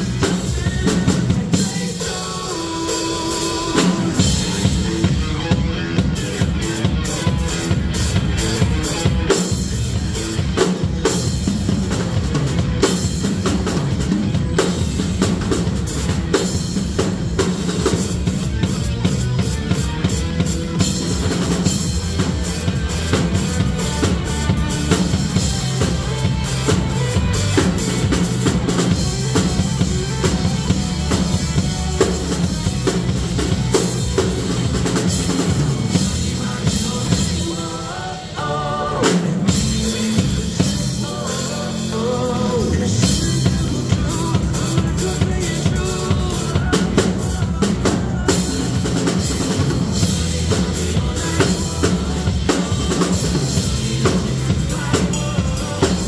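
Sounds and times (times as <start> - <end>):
backing music from speaker: 0.0 - 56.0
drum kit playing rock groove: 0.0 - 56.0.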